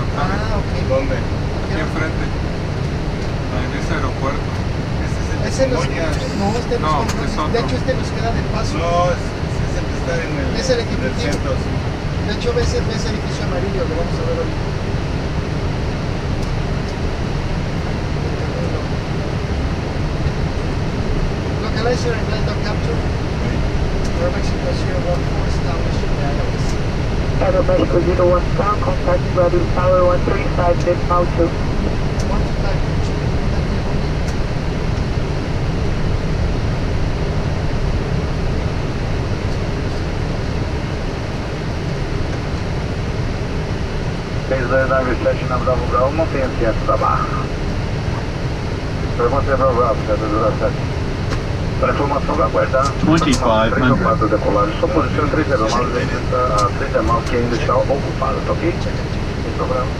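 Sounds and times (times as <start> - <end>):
aircraft engine noise: 0.0 - 59.9.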